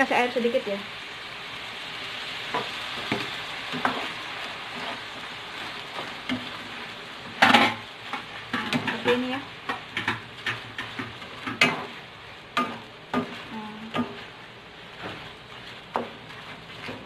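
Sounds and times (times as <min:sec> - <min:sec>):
food sizzling in a frying pan: 0:00.0 - 0:17.0
spatula scraping a pan: 0:02.5 - 0:17.0.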